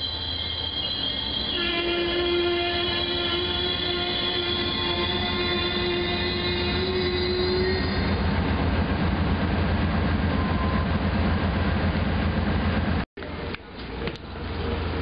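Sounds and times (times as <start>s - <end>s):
train low rumble and hum: 0.0s - 15.0s.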